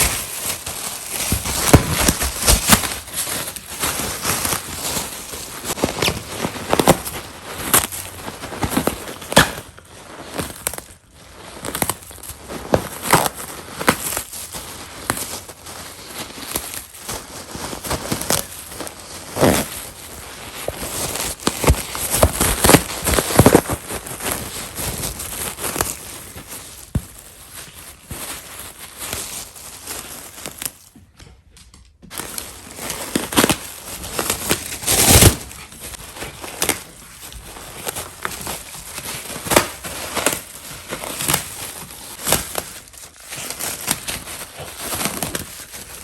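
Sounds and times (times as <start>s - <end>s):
plastic air cushions crackling: 0.0s - 31.0s, 32.1s - 46.0s.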